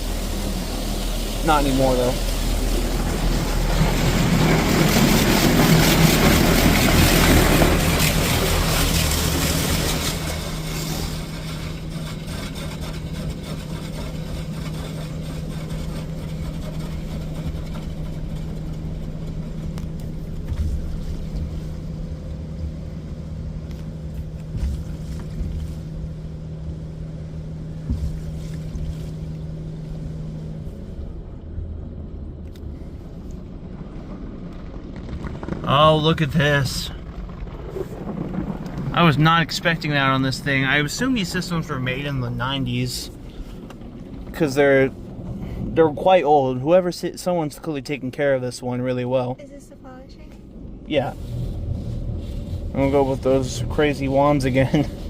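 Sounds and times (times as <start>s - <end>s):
high-pressure water spraying on car: 0.0s - 31.0s, 33.1s - 46.3s, 50.7s - 55.0s
low pump hum: 0.0s - 55.0s.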